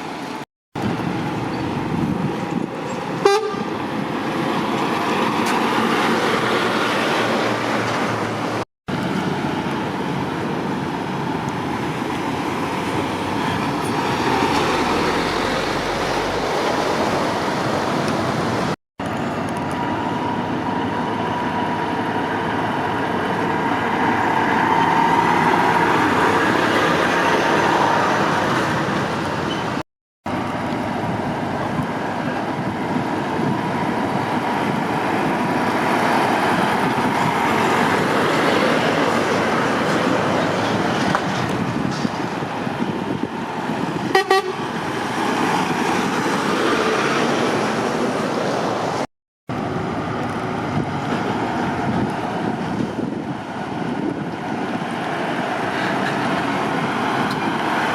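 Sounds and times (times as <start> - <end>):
motorway traffic passing: 0.0 - 57.9.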